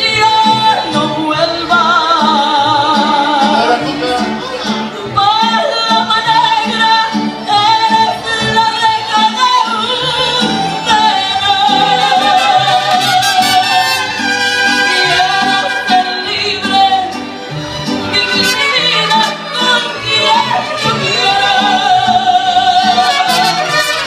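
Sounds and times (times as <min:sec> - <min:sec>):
woman singing into microphone: 0:00.0 - 0:04.1, 0:04.9 - 0:14.1, 0:14.7 - 0:17.4, 0:18.0 - 0:23.8
mariachi band playing: 0:00.0 - 0:24.0.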